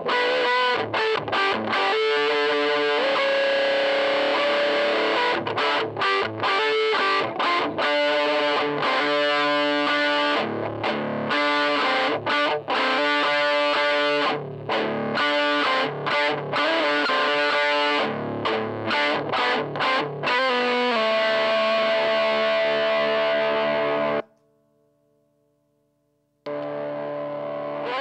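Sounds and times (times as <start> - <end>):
distorted electric guitar riff: 0.0 - 24.3, 26.5 - 28.0.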